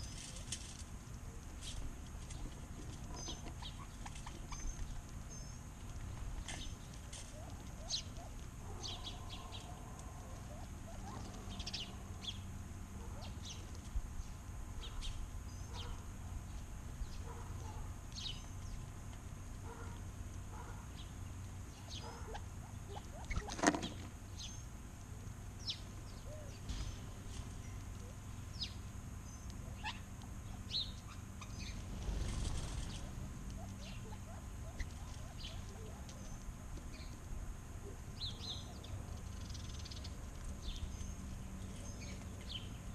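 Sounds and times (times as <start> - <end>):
songbirds chirping: 0.0 - 42.9
steady low hum: 0.0 - 42.9.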